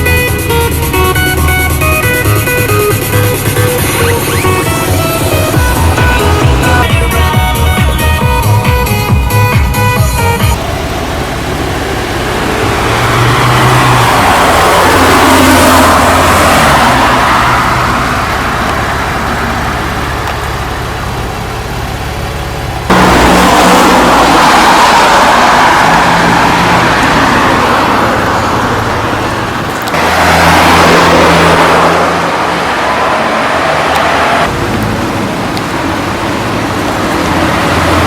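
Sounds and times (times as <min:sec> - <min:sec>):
car engine: 0:00.0 - 0:38.0
road noise: 0:00.0 - 0:38.0.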